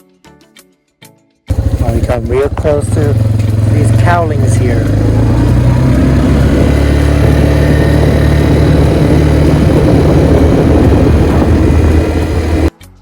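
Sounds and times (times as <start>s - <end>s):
atv engine running: 1.5s - 12.7s
constant rushing noise: 1.5s - 12.7s.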